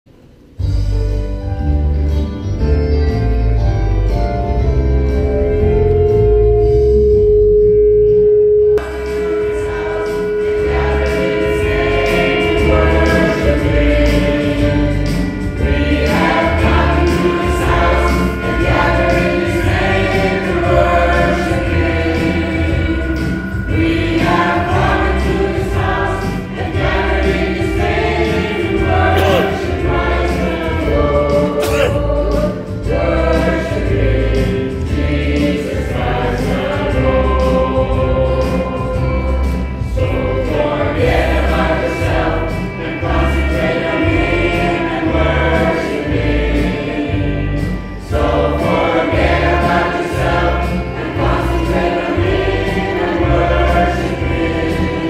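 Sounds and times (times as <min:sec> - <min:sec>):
keyboard orchestral backing: 0:00.5 - 0:55.0
rhythmic bass accompaniment: 0:02.7 - 0:55.0
church choir singing: 0:08.7 - 0:55.0.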